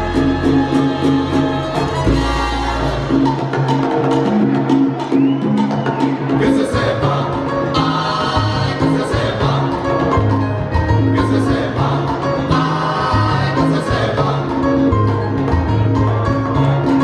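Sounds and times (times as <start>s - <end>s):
chorus of singers: 0.0s - 3.7s, 5.2s - 17.0s
salsa band playing: 0.0s - 17.0s.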